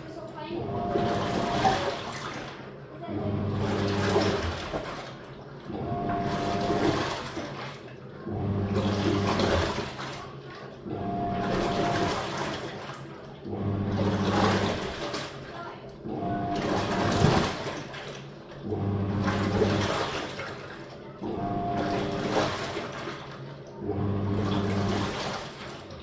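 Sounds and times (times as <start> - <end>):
washing machine motor hum: 0.0 - 26.0
water sloshing in tub: 0.0 - 26.0.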